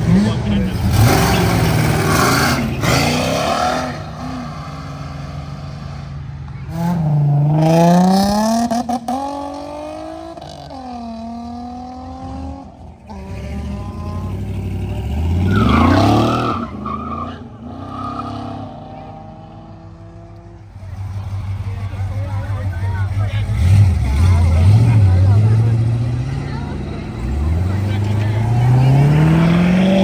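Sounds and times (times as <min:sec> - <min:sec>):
car engines accelerating hard: 0:00.0 - 0:30.0.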